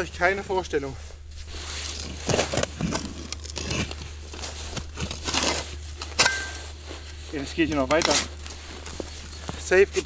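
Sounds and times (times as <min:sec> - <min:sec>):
soil crunching and rustling: 0:00.0 - 0:10.0.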